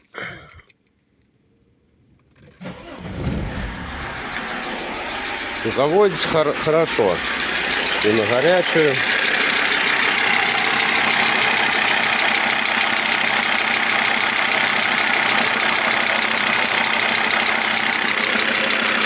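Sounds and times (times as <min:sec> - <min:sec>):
engine ticking: 0:02.6 - 0:19.0
diesel engine idling: 0:02.7 - 0:19.0.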